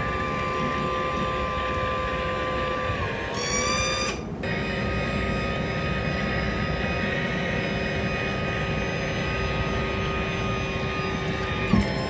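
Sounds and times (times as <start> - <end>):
boat engine whine: 0.0 - 12.0.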